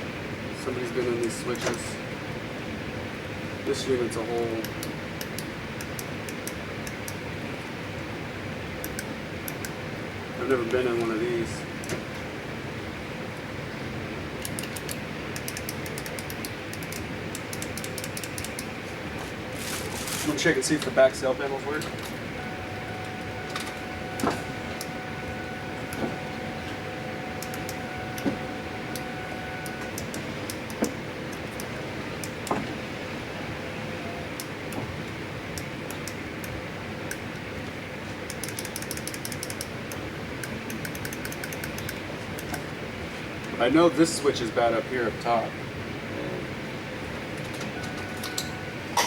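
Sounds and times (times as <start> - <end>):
fans running: 0.0 - 49.0.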